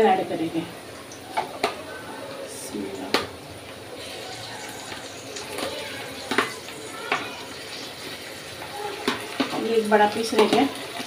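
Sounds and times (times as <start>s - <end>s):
pan sizzling: 0.0s - 11.0s.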